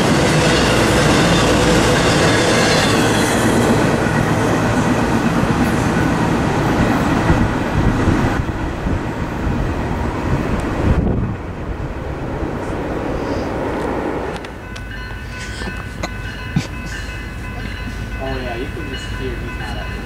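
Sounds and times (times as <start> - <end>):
train wheels rumbling and clattering: 0.0 - 20.0.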